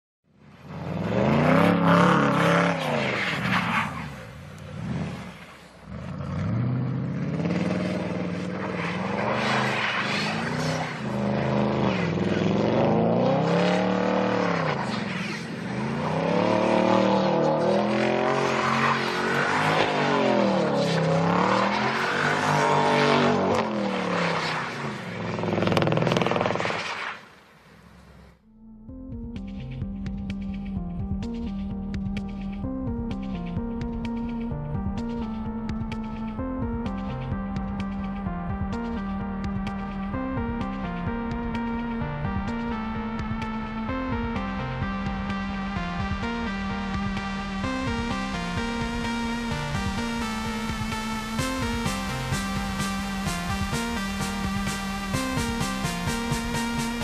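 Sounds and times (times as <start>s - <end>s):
car engine revving: 0.5s - 27.2s, 29.8s - 57.0s.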